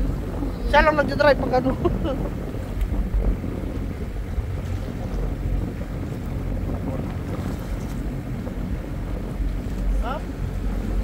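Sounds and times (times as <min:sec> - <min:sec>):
water washing along hull: 0:00.0 - 0:11.0
wind rumbling on microphone: 0:00.0 - 0:11.0.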